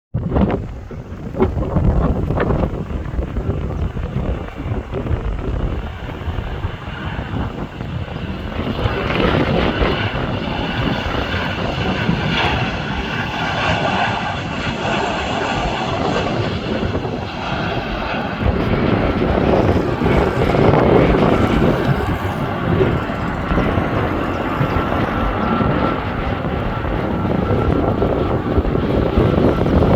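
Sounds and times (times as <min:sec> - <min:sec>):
jet airliner engines: 0:00.2 - 0:29.9.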